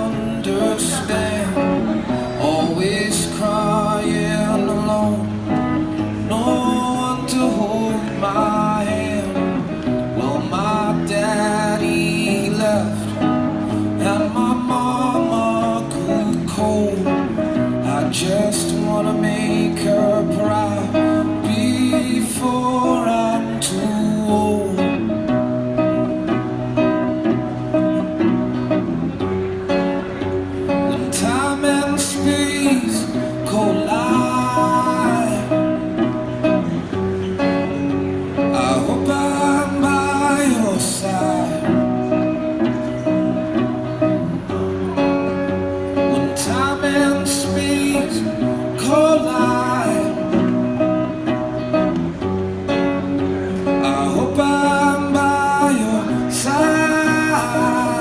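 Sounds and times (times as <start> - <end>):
guitar strumming chords: 0.0 - 58.0.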